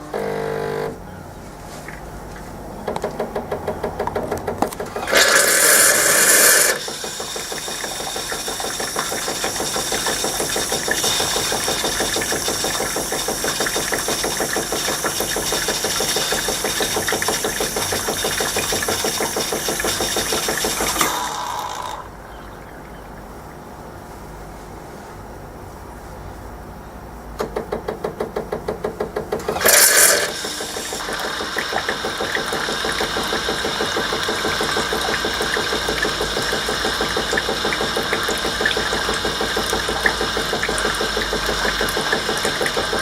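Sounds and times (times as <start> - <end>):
coffee machine pump pulsing: 0.0 - 1.2, 1.8 - 23.6, 27.4 - 43.0.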